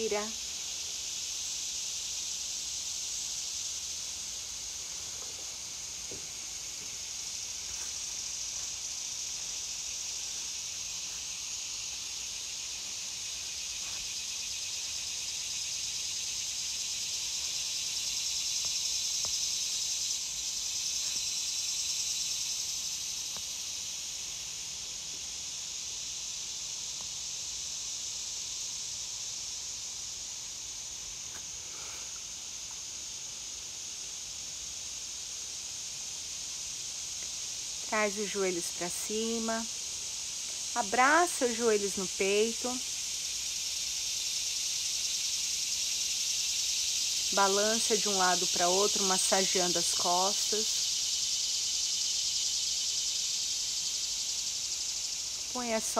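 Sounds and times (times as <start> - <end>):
insects buzzing in trees: 0.0 - 55.9.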